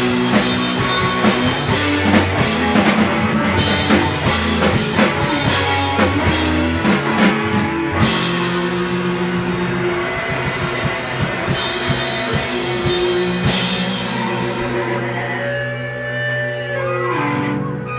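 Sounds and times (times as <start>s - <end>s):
rock band playing live: 0.0s - 17.9s.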